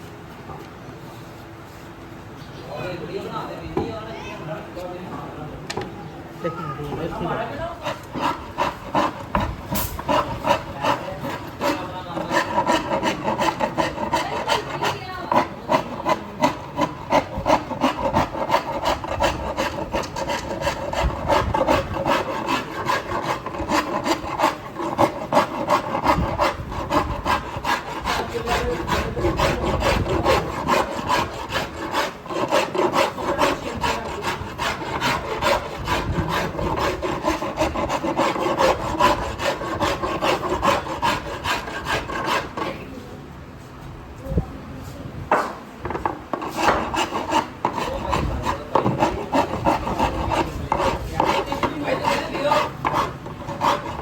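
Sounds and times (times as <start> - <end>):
rasp on wooden bat: 6.9 - 43.0, 45.3 - 54.0.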